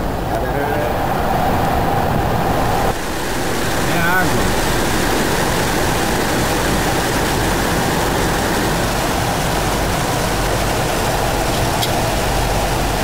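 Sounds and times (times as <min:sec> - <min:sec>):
airflow and rain hiss: 0:00.0 - 0:13.0
low engine hum: 0:00.0 - 0:13.0.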